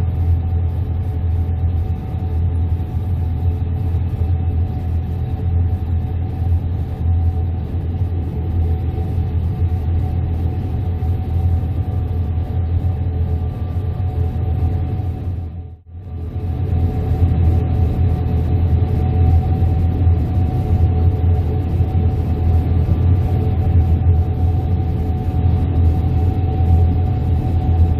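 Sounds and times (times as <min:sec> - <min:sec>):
combine harvester drone: 0:00.0 - 0:27.9
faint steady whine: 0:00.0 - 0:27.9.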